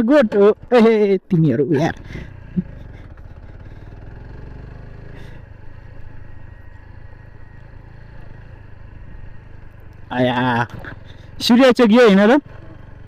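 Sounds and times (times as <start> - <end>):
motorcycle engine running: 0.3 - 13.0.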